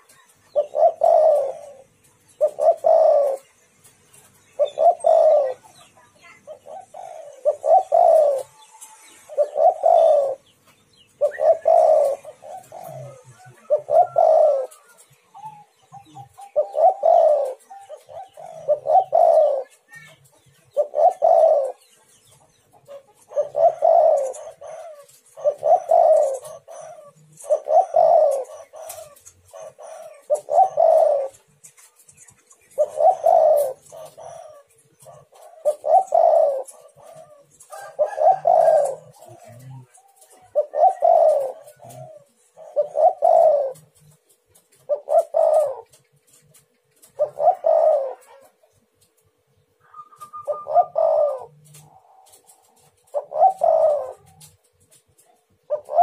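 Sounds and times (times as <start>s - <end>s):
dove cooing: 0.0s - 3.6s, 4.2s - 56.0s.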